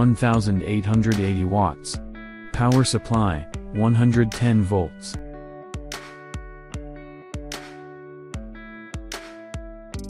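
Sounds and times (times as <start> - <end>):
guitar-like chords: 0.0 - 10.0
light beat: 0.0 - 10.0.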